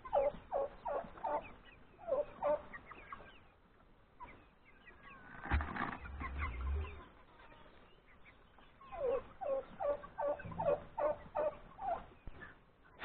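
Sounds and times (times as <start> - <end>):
chicken clucking: 0.0 - 13.0.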